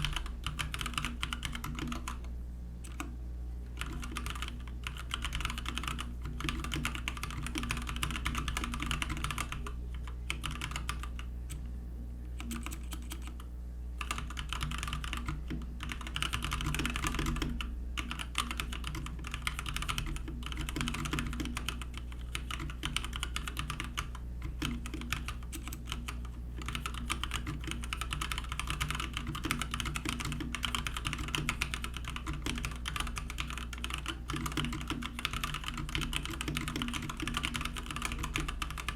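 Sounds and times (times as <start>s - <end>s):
mechanical keyboard typing: 0.0s - 3.1s, 3.7s - 11.6s, 12.4s - 38.9s.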